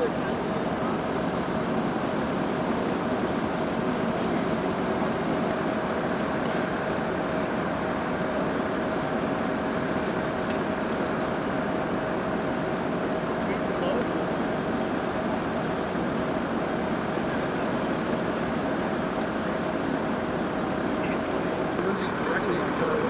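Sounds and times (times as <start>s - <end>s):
engine idling with whine: 0.0s - 23.0s.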